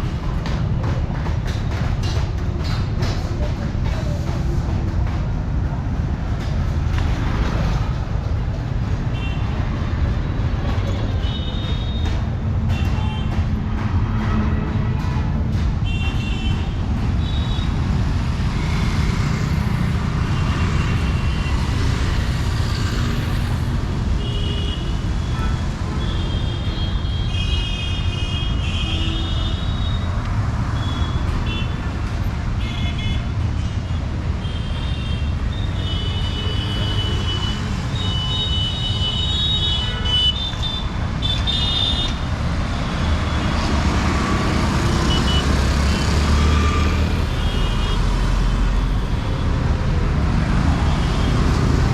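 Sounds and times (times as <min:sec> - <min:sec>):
rumble of passing vehicles: 0:00.0 - 0:51.9.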